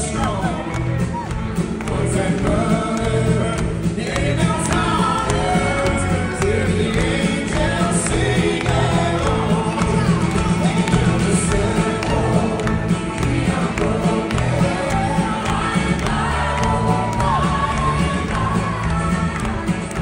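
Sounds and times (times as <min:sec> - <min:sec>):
live country band playing: 0:00.0 - 0:20.0
man and woman singing: 0:01.6 - 0:20.0.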